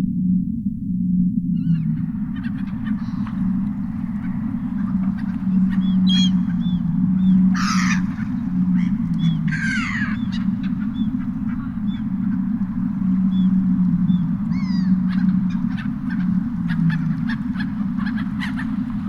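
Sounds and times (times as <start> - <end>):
steady low rumble: 0.0 - 19.0
harsh gull squawks: 1.6 - 19.0
seagulls calling: 1.6 - 19.0.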